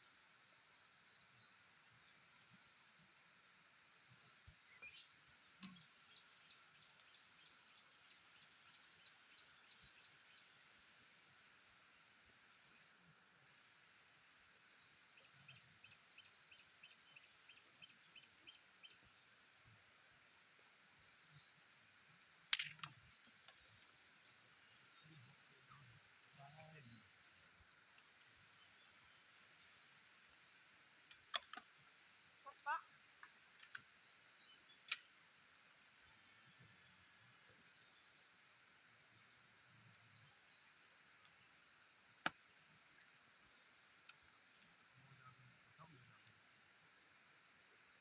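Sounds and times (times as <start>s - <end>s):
rural background noise: 0.0s - 48.0s.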